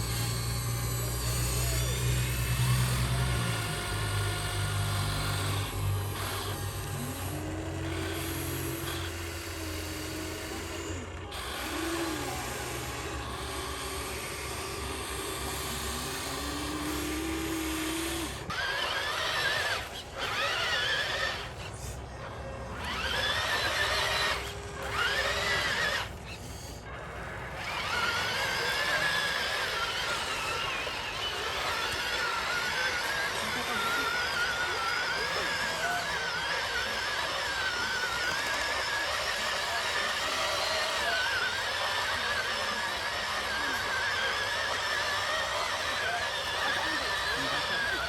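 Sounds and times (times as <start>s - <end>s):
toy electric motors whining: 0.0s - 48.0s.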